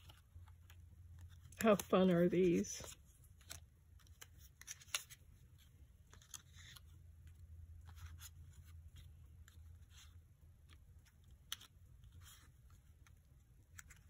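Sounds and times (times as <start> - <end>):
cardstock rustling and clicking: 0.0 - 14.0.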